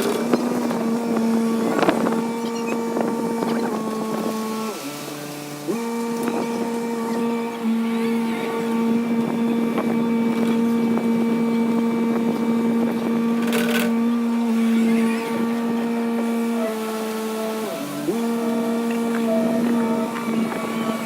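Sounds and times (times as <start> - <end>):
excavator engine droning: 0.0 - 21.0.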